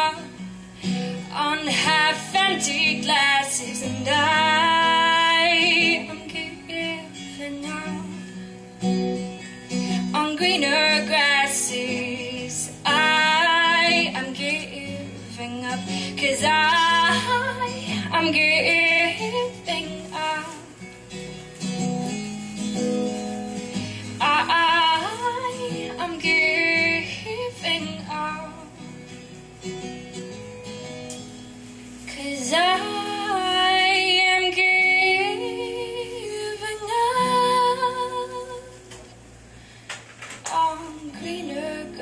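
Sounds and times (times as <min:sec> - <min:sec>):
acoustic guitar: 0:00.0 - 0:42.0.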